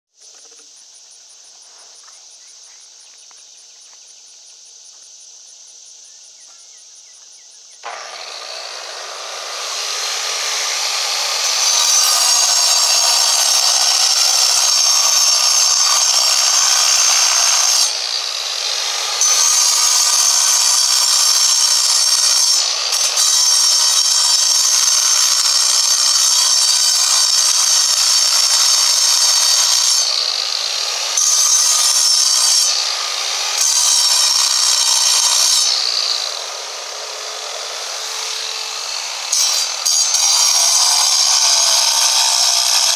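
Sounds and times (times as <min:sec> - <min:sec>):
angle grinder cutting stone: 0:07.8 - 0:42.9.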